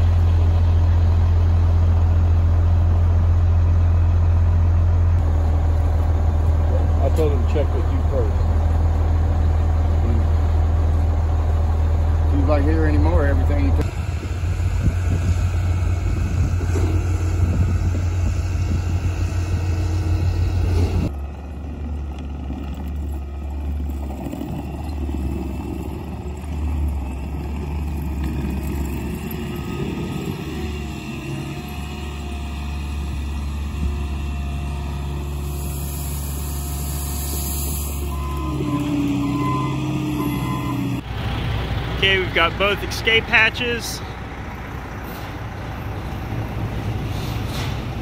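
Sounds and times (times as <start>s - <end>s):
heavy machinery diesel engines droning: 0.0s - 48.0s.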